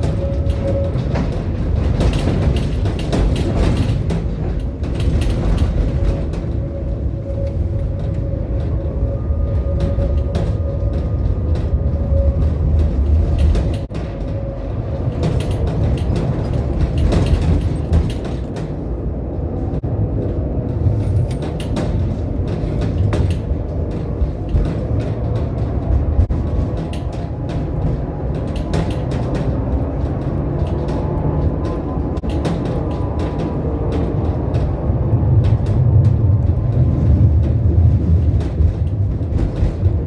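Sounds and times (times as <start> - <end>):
rail clicks and rattling: 0.0 - 40.0
tram rumbling on rails: 0.0 - 40.0.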